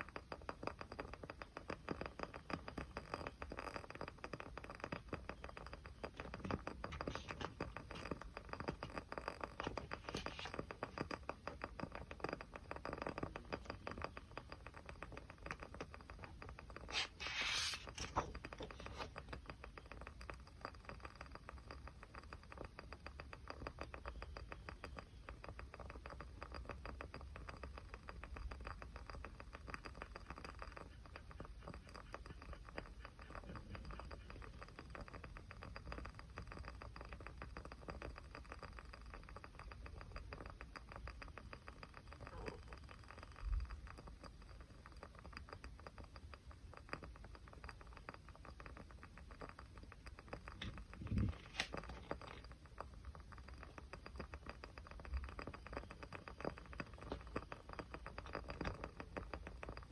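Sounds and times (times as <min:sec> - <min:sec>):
small fire crackling: 0:00.0 - 0:59.9.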